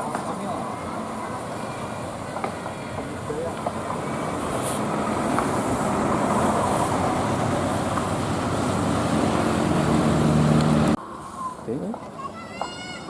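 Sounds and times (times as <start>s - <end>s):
bus engine and road noise: 0.0s - 11.2s.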